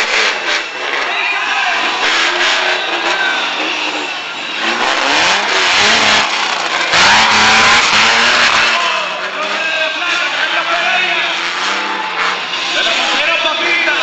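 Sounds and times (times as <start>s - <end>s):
engine revving hard: 0.0s - 14.0s.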